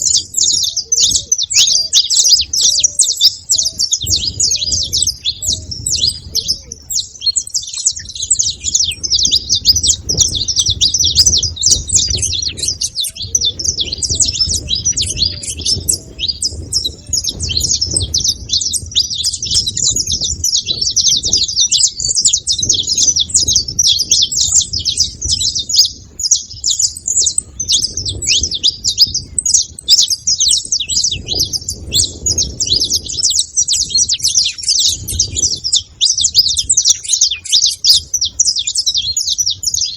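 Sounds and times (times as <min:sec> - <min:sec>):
finch chirping and singing: 0:00.0 - 0:39.9.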